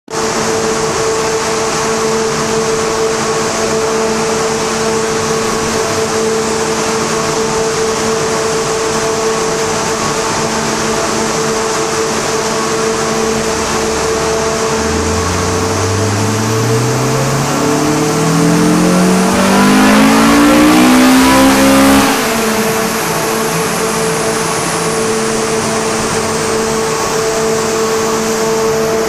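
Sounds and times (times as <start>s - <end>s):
dyno machine whine: 0.2s - 29.0s.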